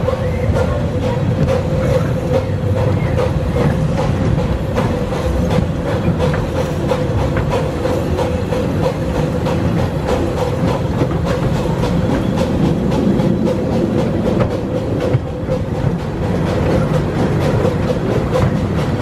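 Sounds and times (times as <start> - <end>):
miniature steam train rumbling: 0.0 - 19.0
train wheels clicking: 0.0 - 19.0.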